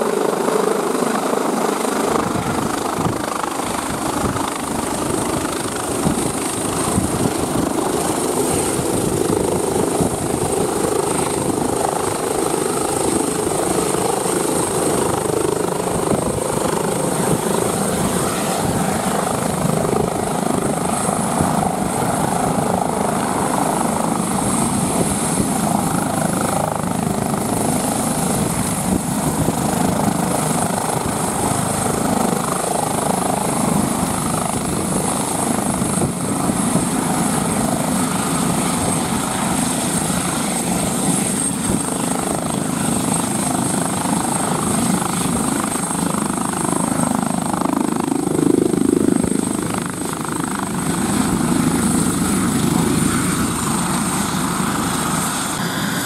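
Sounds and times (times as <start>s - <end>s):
helicopter rotors and turbine whine: 0.0s - 56.0s.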